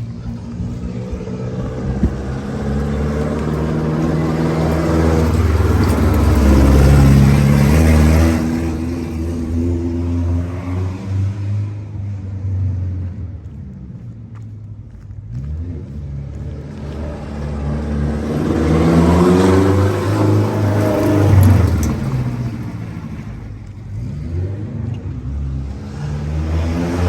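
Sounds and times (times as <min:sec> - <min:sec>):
car engine running: 0:00.0 - 0:10.4, 0:11.6 - 0:27.0.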